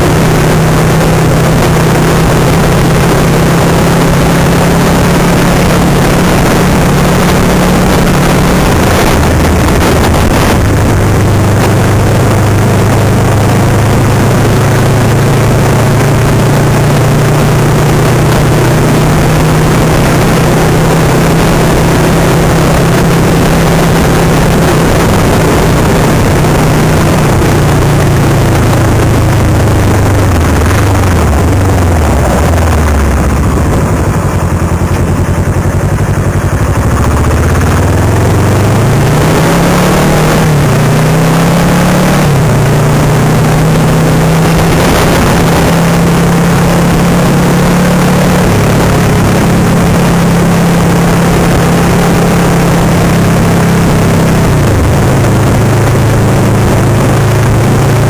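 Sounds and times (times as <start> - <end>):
motorcycle engine slowing and accelerating: 0.0 - 58.0.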